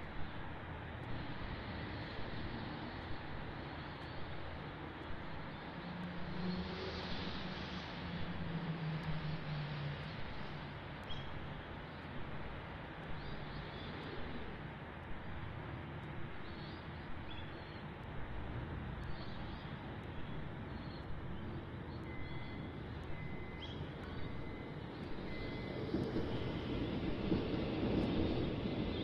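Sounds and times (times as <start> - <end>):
city rumble: 0.0 - 29.0.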